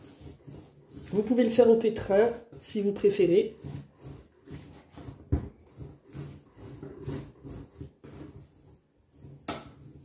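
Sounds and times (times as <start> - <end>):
dough kneading thuds and squishes: 0.0 - 10.0.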